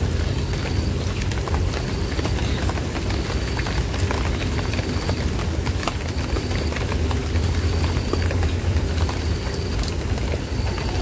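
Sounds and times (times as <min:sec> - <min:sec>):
rain on leaves: 0:00.0 - 0:11.0.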